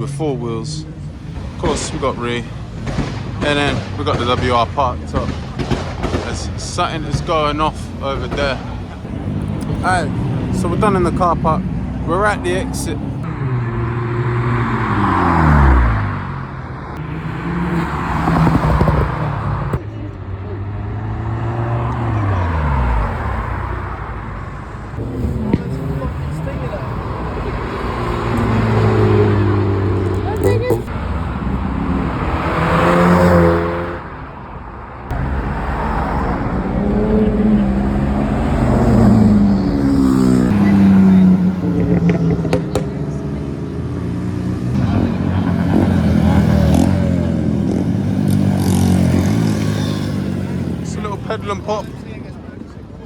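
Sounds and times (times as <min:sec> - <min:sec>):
car passing by: 0:01.1 - 0:53.0.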